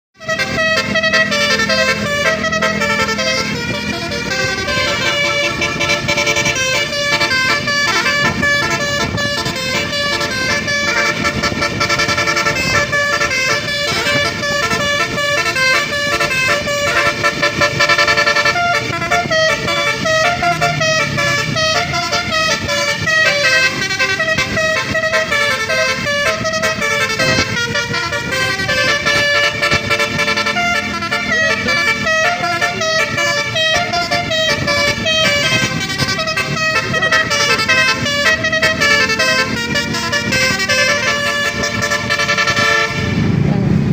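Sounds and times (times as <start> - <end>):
musical air horns playing tune: 0.2 - 43.4.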